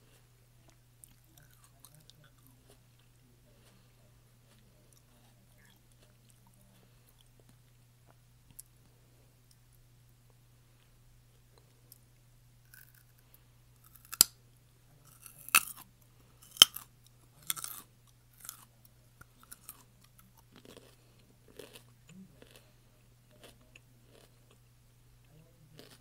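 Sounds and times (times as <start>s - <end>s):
crunchy eating: 0.0s - 26.0s
faint low hum: 0.0s - 26.0s.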